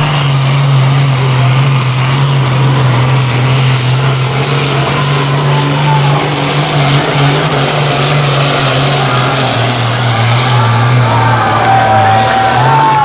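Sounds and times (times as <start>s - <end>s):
tractor engine running hard: 0.0s - 13.0s.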